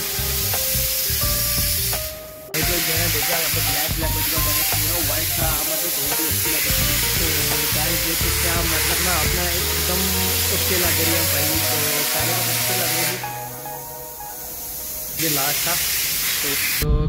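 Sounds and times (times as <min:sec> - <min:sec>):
background music with a beat: 0:00.0 - 0:15.2
spray gun hissing: 0:00.0 - 0:16.8.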